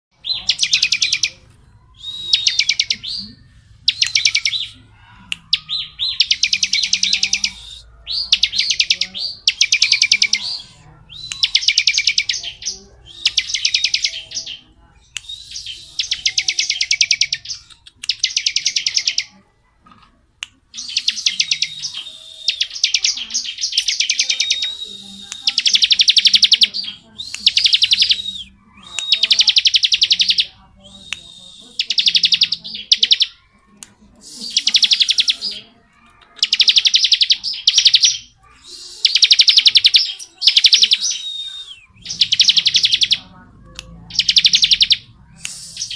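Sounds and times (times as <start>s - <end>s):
bird singing rattling trills: 0.1s - 4.8s, 5.5s - 19.3s, 20.7s - 33.5s, 34.2s - 45.9s.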